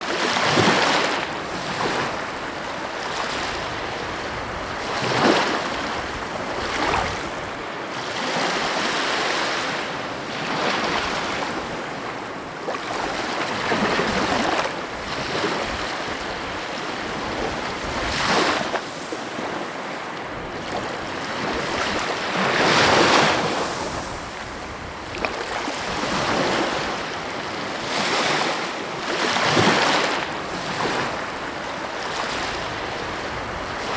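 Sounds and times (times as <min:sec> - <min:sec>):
sea waves washing in: 0:00.0 - 0:33.9.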